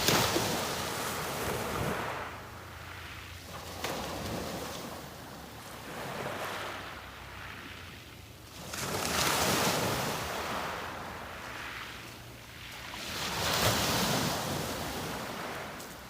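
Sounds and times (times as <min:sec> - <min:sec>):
sea waves breaking on beach: 0:00.0 - 0:16.0.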